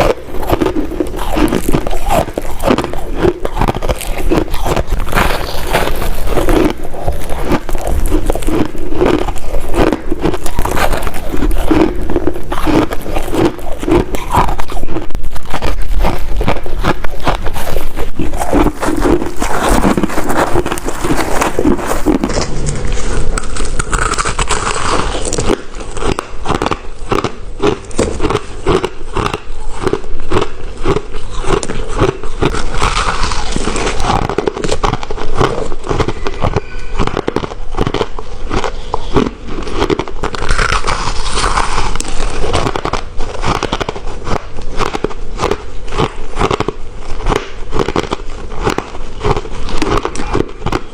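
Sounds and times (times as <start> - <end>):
ice crunching being chewed: 0.0 - 50.9.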